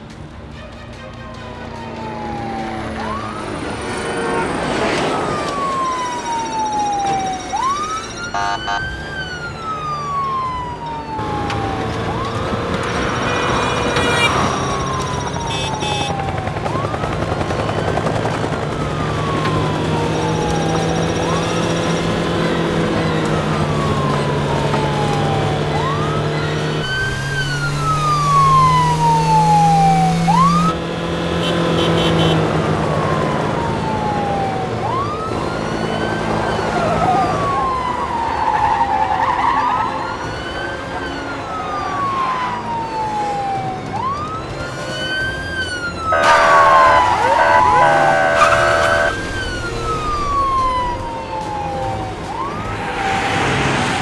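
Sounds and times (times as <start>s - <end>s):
police siren wailing: 1.2s - 54.0s.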